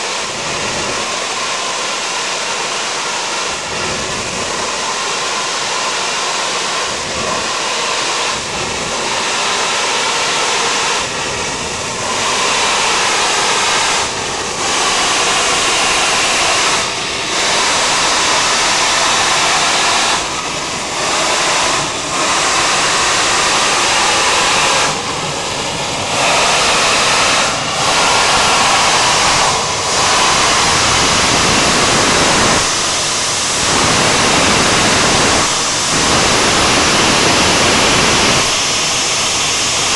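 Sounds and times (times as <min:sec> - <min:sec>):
high-pressure gas rushing hiss: 0:00.0 - 0:39.9.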